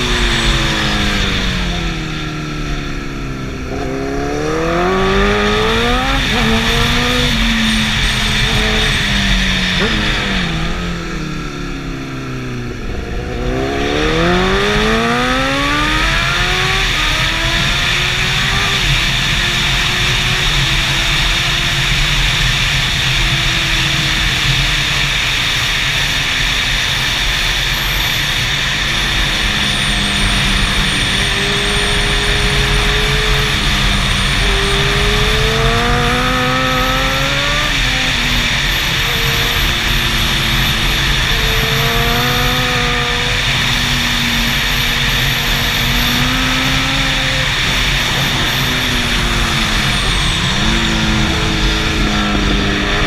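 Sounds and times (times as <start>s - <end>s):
loud rushing noise: 0.0s - 53.0s
motorbike engine accelerating: 0.0s - 53.0s.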